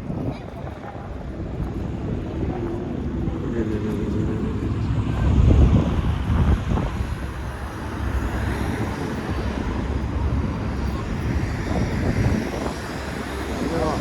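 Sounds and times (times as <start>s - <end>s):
low engine rumble: 0.0s - 14.0s
wind buffeting microphone: 0.0s - 14.0s.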